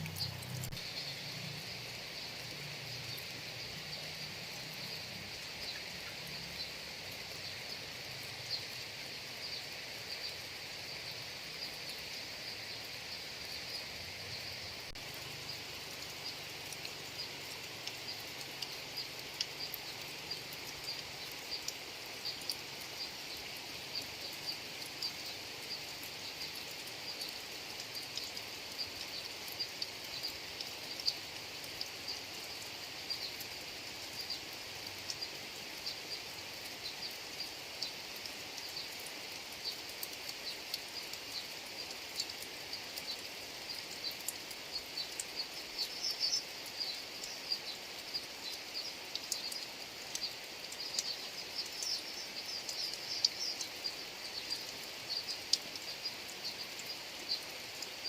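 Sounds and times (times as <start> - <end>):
raindrop ticks: 0.0 - 8.8, 14.8 - 58.0
rain hissing: 0.0 - 58.0.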